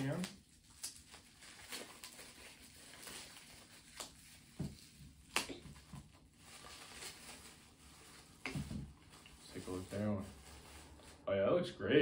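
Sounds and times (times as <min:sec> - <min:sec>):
plastic wrapping rustling: 0:00.0 - 0:11.3.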